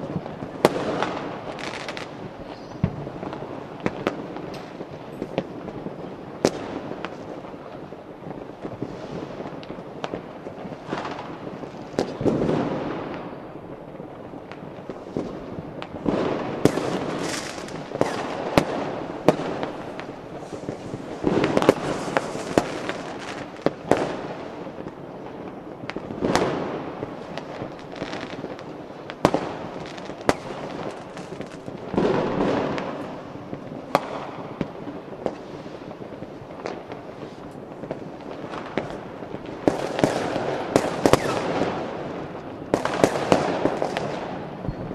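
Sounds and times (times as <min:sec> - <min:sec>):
fireworks banging: 0:00.0 - 0:44.9
fireworks crackling: 0:00.0 - 0:44.9.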